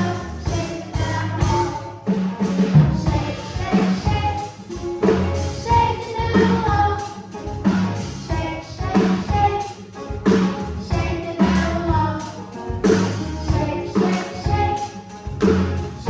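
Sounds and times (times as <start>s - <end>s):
bass line: 0.0s - 9.6s, 10.2s - 16.0s
children's choir singing: 0.0s - 16.0s
drum kit beat: 0.0s - 16.0s.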